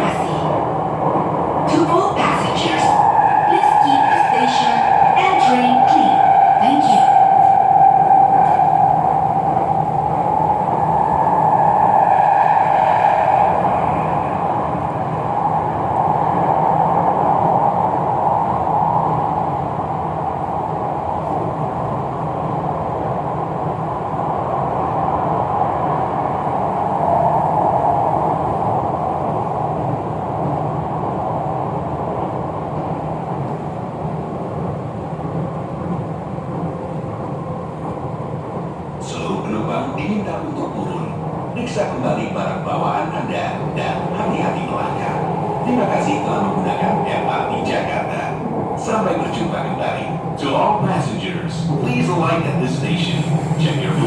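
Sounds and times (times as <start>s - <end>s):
train wheels rumbling on rails: 0.0s - 54.0s
train whine: 0.0s - 54.0s.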